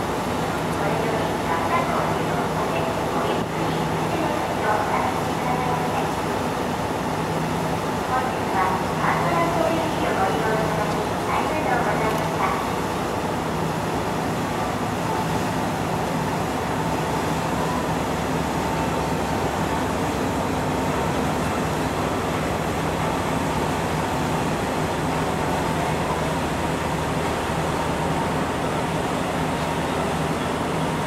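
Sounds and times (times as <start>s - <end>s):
ferry engine hum: 0.0s - 31.0s.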